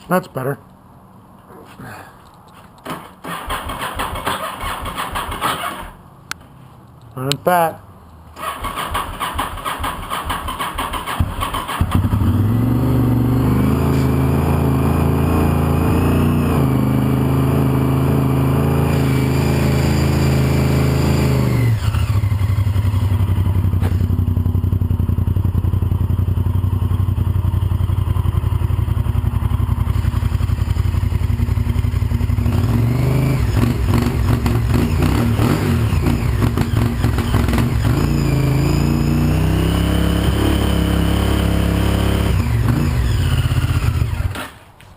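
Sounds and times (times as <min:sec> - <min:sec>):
motorcycle engine idling and revving: 0:02.8 - 0:06.0, 0:08.4 - 0:44.7.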